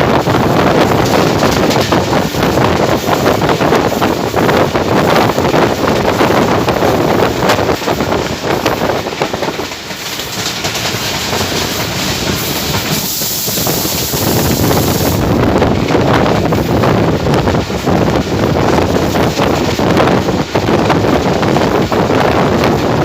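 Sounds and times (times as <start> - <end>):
train wheels clattering over rails: 0.0 - 23.0.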